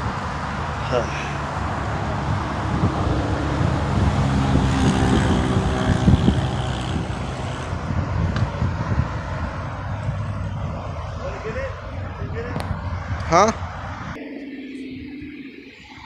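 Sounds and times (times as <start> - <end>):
vehicle engine hum: 0.0 - 14.2
road noise: 0.0 - 16.0.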